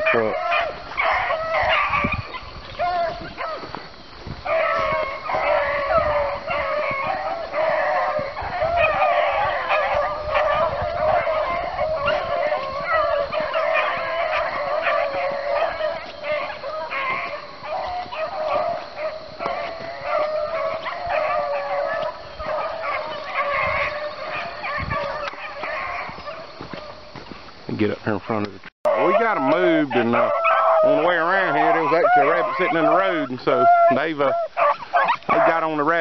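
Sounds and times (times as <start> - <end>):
pack of dogs baying: 0.0 - 27.3, 28.3 - 36.0.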